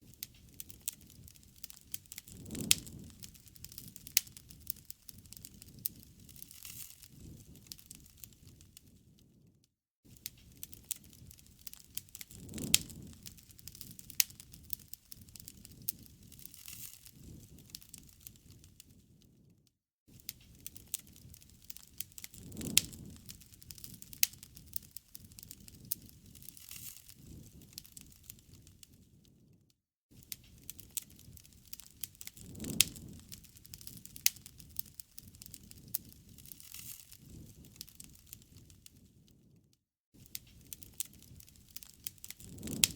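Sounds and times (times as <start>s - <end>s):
bonfire pops and crackles: 0.0s - 42.9s
low rush of flame: 0.1s - 9.5s, 10.1s - 19.5s, 20.1s - 29.6s, 30.2s - 39.6s, 40.2s - 42.9s.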